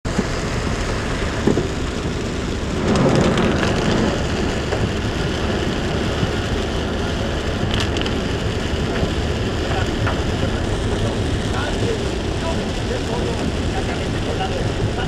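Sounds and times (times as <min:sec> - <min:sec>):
car driving rumble: 0:00.0 - 0:15.0
rain hiss: 0:00.1 - 0:15.0.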